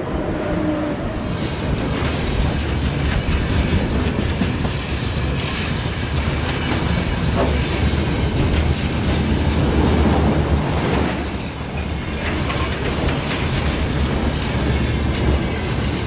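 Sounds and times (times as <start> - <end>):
freight train wagons rumbling: 0.0 - 16.0
wheels clacking over rail joints: 1.2 - 16.0.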